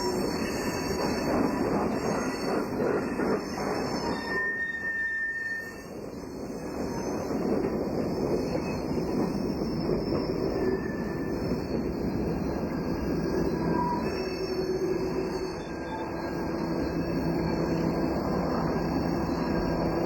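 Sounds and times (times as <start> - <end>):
train rumbling along track: 0.0 - 20.0
train wheels squealing: 0.0 - 20.0.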